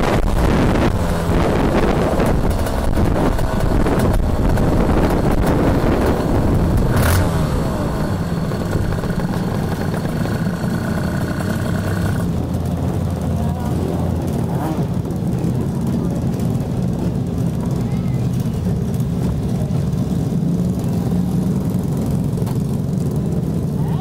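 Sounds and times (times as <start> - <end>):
kart engine running: 0.0 - 24.0
steady whine: 0.0 - 24.0.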